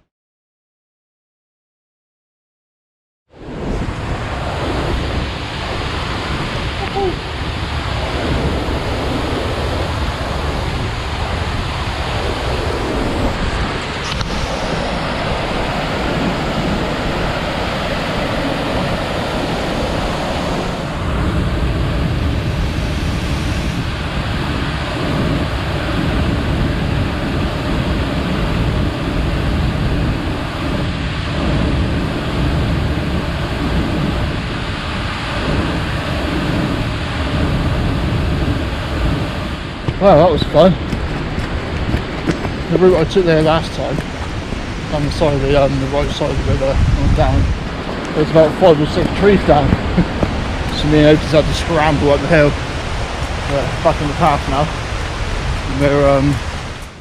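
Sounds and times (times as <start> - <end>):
wind rumbling on microphone: 3.3 - 57.0
river rushing: 3.4 - 57.0.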